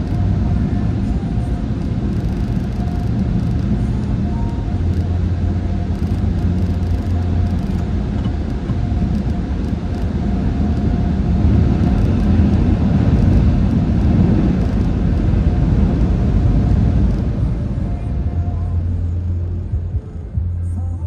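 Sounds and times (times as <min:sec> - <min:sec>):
car wash machinery rumble: 0:00.0 - 0:21.0
faint constant hum: 0:00.0 - 0:21.0
vehicle running: 0:00.0 - 0:21.0.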